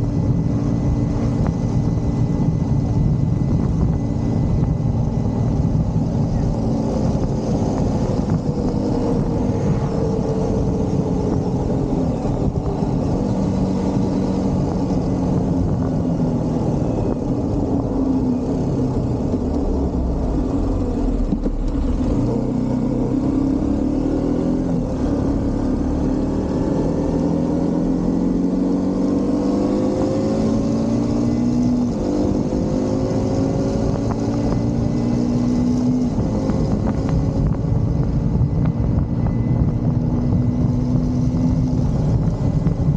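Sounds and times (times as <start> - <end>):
dense low rumble: 0.0 - 28.9, 29.9 - 42.9
motorcycle engine running: 0.0 - 42.9.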